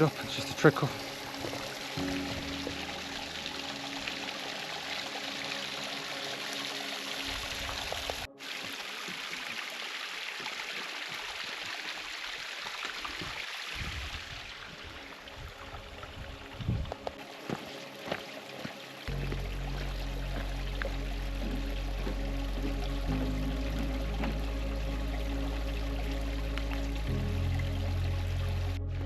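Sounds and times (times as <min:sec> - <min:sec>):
water trickling over rocks: 0:00.0 - 0:28.8.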